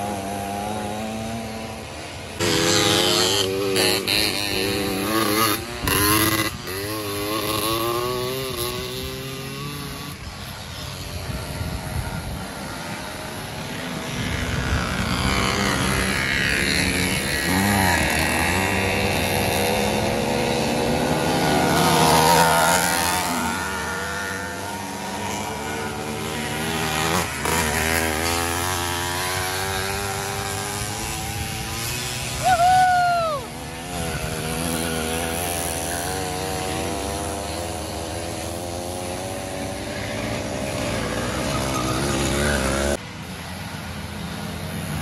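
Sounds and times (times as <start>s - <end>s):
small two-stroke engines revving: 0.0s - 45.0s.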